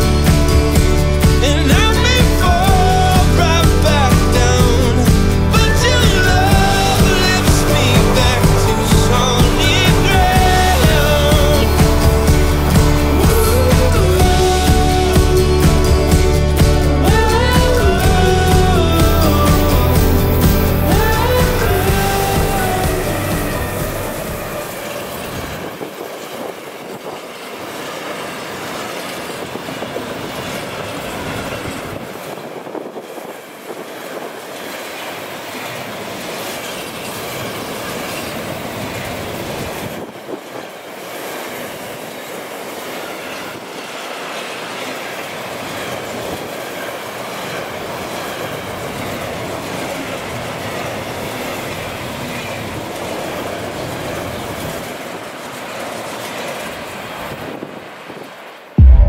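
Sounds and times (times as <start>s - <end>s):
wheels rolling on rail: 0.0s - 58.8s
freight train passing: 0.0s - 59.0s.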